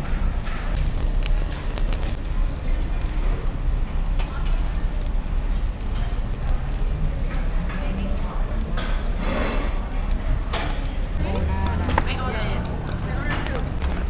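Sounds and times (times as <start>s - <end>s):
meat sizzling on grills: 0.0s - 14.0s
faint background chatter: 1.4s - 14.0s.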